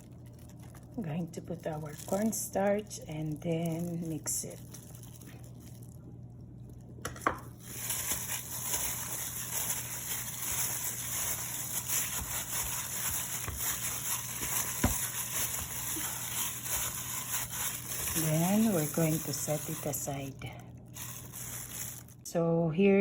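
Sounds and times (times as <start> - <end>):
wet squishing and stirring: 0.0 - 22.3.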